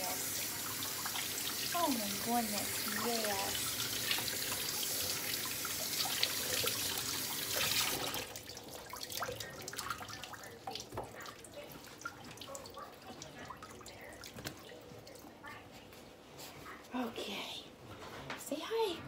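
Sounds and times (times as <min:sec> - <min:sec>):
faucet water splashing in sink: 0:00.0 - 0:15.3
water dripping and splashing: 0:00.0 - 0:15.4.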